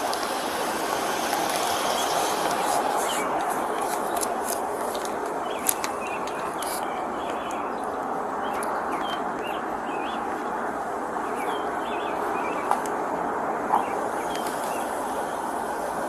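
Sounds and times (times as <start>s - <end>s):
birds chirping: 0.0s - 16.0s
steady rushing noise: 0.0s - 16.0s.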